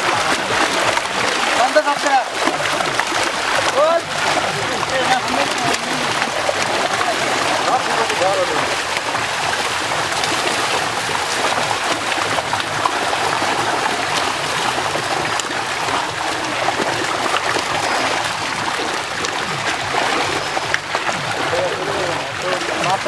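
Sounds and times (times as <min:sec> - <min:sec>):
fish splashing in shallow water: 0:00.0 - 0:23.0.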